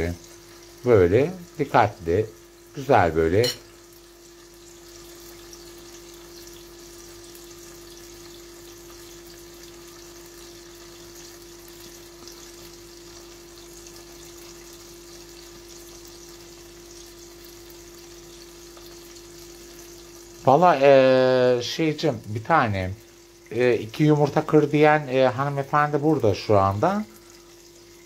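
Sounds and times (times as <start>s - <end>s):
tomato sizzling in a pan: 0.0s - 28.0s.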